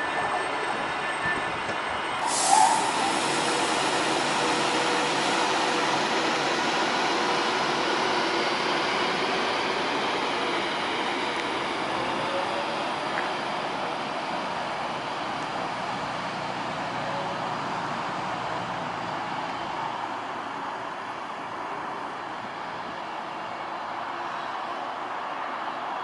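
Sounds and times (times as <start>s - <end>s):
electric train rumbling slowly: 0.0s - 26.0s.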